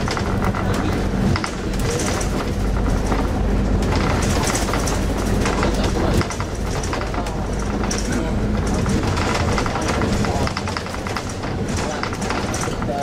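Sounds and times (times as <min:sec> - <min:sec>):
bus engine drone: 0:00.0 - 0:13.0
light rattles and clicks: 0:00.0 - 0:13.0
road rumble: 0:00.0 - 0:13.0.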